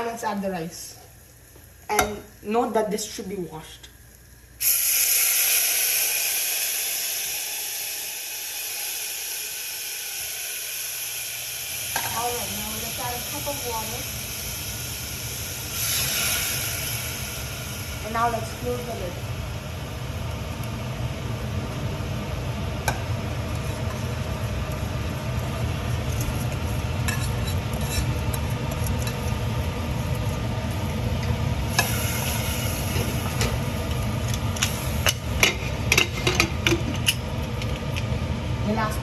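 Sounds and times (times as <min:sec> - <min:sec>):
pressure cooker hissing: 0:00.0 - 0:38.9.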